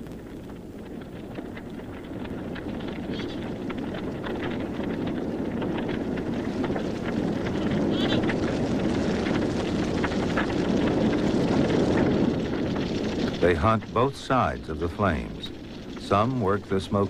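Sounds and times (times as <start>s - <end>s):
grass fire roaring and crackling: 0.0s - 17.0s.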